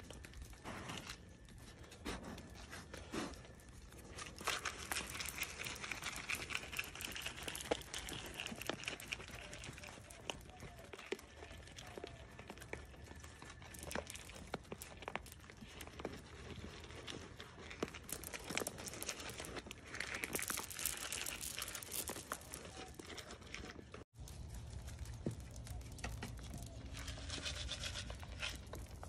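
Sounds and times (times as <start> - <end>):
deer crunching feed from plastic cup: 0.0 - 29.0.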